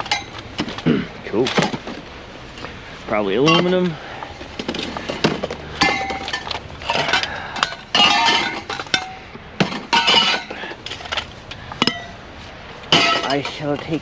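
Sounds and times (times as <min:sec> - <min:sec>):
scrap metal clanking: 0:00.0 - 0:02.8, 0:03.4 - 0:14.0.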